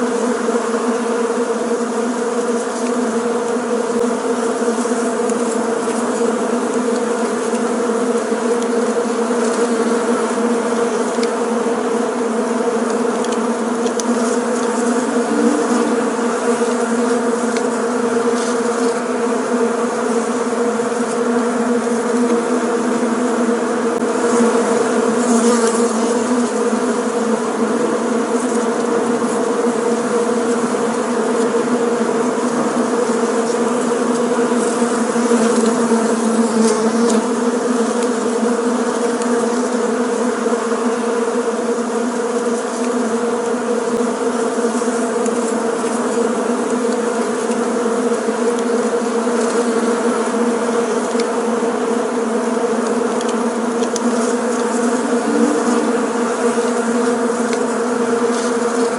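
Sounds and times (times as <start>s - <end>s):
bees buzzing: 0.0s - 58.9s.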